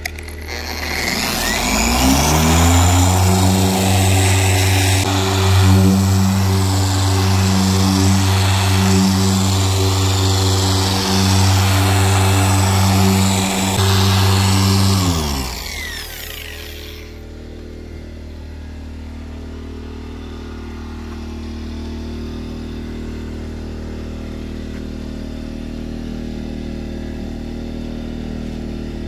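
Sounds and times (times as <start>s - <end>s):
polisher motor whine winding down: 0.0s - 25.6s
low engine hum: 0.0s - 29.0s.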